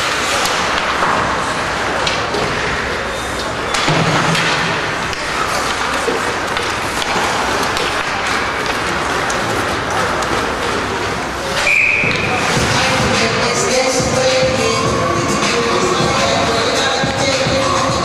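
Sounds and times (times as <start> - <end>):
puck and sticks knocking boards: 0.0 - 14.6
crowd hubbub: 0.0 - 18.0.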